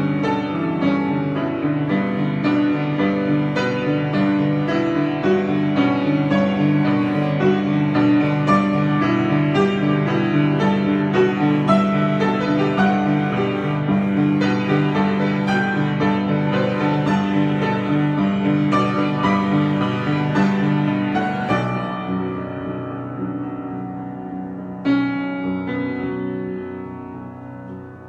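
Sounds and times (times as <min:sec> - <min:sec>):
piano improvisation: 0:00.0 - 0:28.0.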